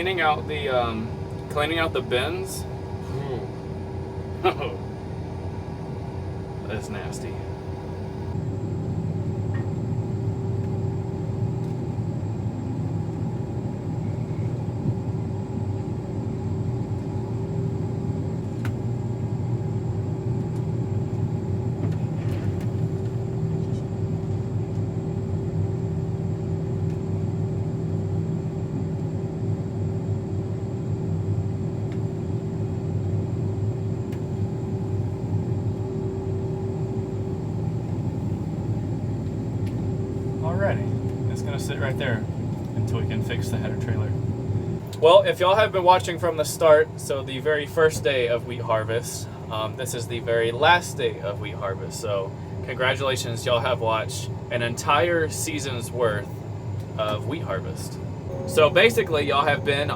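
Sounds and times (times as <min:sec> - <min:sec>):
combine harvester engine drone: 0:00.0 - 0:59.9
steady whine: 0:00.0 - 0:59.9.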